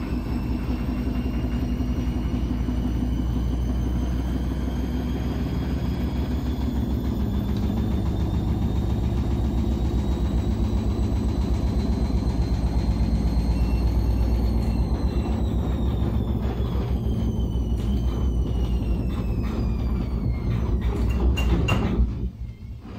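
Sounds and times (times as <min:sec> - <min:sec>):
faint motor whine: 0:00.0 - 0:21.2
washing machine drum spinning: 0:00.0 - 0:22.9.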